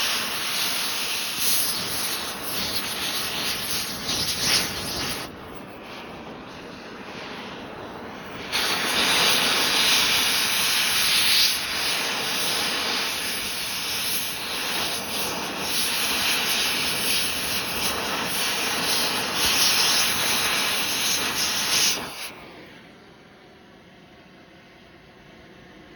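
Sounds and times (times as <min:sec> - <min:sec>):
torch flame hissing: 0:00.0 - 0:22.8.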